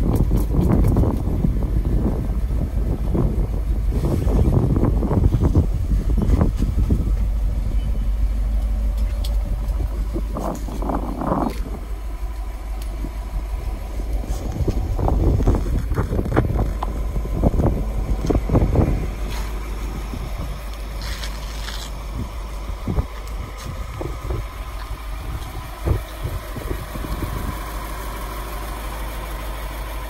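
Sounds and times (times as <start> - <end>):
wind buffeting microphone: 0.0 - 28.6
engine idling: 0.0 - 30.0.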